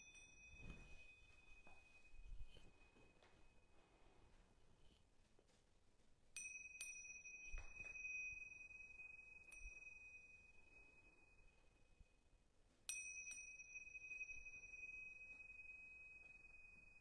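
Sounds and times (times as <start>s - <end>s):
small high-pitched bell ringing: 0.0s - 4.0s, 6.3s - 17.0s.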